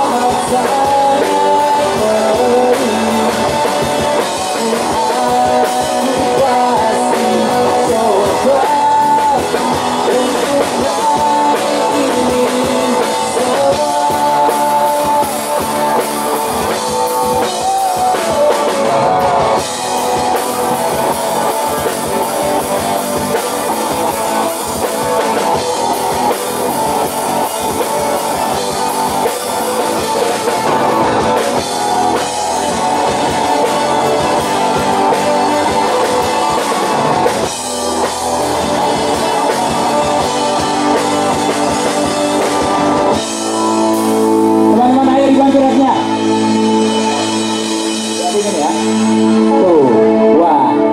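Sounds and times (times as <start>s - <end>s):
live rock band playing: 0.0s - 50.9s
sliding lead melody: 0.0s - 50.9s.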